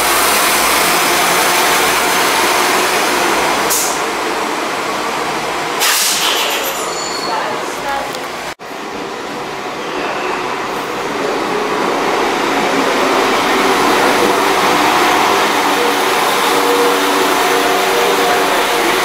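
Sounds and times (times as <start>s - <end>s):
diesel train running in: 0.0s - 19.0s.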